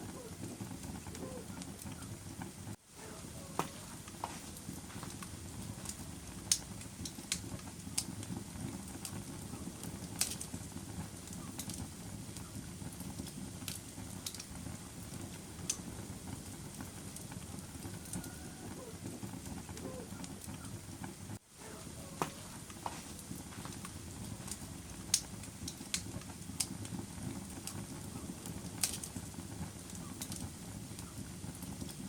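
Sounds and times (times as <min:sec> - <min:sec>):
fire crackling and popping: 0:00.0 - 0:32.0
wood fire rumbling: 0:00.0 - 0:32.0.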